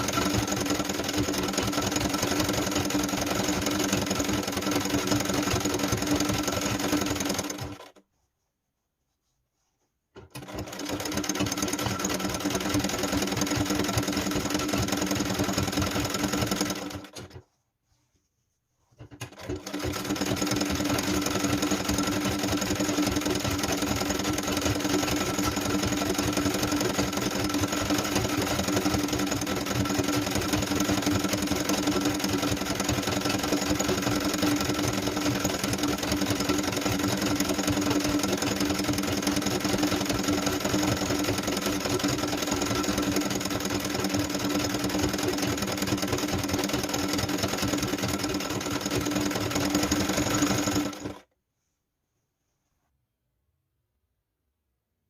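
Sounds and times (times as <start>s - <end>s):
sewing machine stitching: 0.0s - 8.0s, 10.2s - 17.5s, 19.0s - 51.3s.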